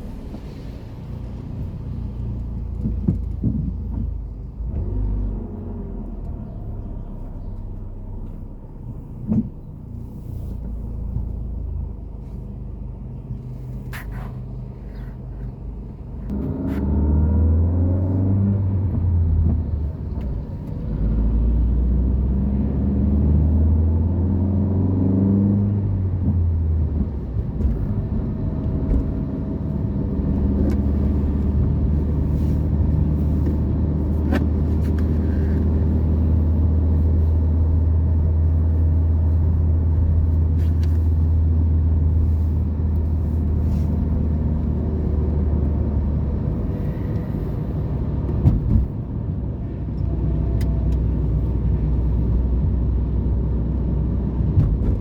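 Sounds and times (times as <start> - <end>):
vehicle engine accelerating: 0.0 - 12.0, 16.3 - 55.0.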